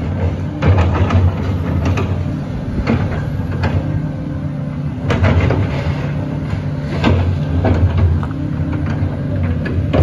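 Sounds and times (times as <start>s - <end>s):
heavy diesel engine idling: 0.0s - 10.0s.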